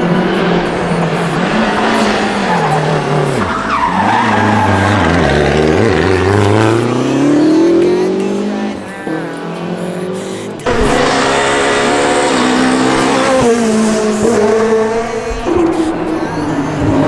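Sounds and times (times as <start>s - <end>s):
rally car engine: 0.0s - 17.0s
tyres skidding: 0.0s - 17.0s.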